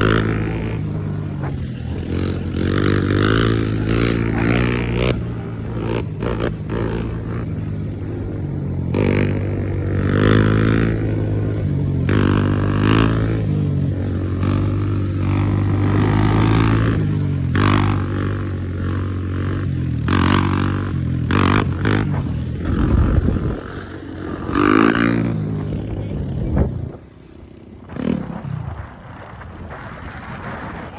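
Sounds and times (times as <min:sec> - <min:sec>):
dirt bike engine revving: 0:00.0 - 0:27.0, 0:27.8 - 0:29.0.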